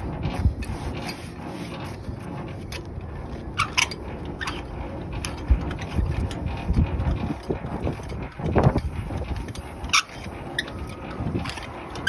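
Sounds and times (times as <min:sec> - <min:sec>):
gearbox grinding: 0:00.0 - 0:12.0.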